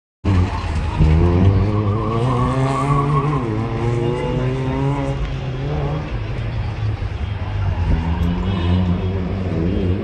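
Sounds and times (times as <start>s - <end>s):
race car engine revving: 0.3s - 10.0s.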